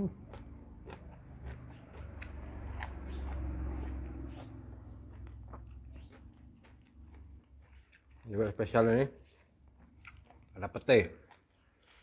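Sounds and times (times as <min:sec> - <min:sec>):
person chewing food: 0:00.0 - 0:08.3, 0:09.2 - 0:12.0.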